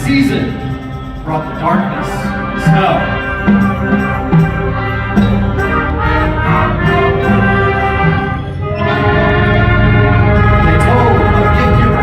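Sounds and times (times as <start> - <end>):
concert band playing chords: 0.0 - 12.0
sharp percussion hits: 0.0 - 12.0.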